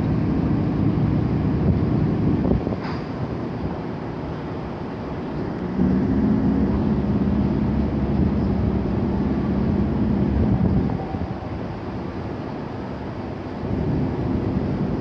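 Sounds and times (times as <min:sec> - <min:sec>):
large ship engine rumble: 0:00.0 - 0:15.0.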